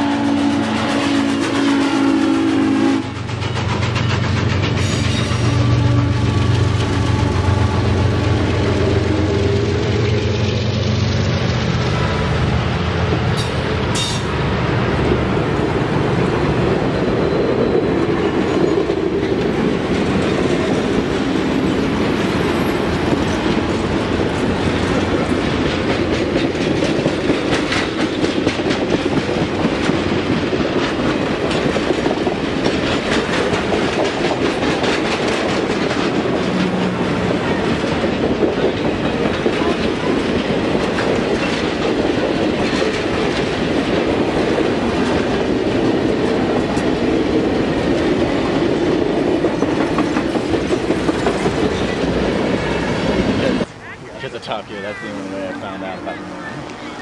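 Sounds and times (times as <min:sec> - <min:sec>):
train wheels rumbling on rail: 0:00.0 - 0:53.8
wheels clacking over rail joints: 0:03.0 - 0:14.4, 0:15.8 - 0:53.7.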